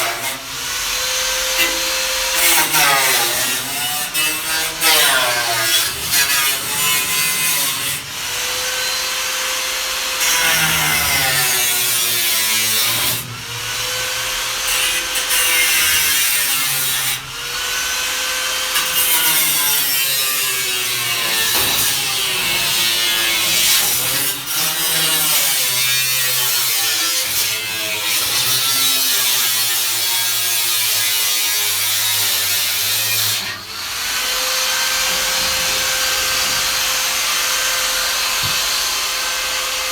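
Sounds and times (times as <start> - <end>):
power tool cutting steel: 0.0 - 39.9.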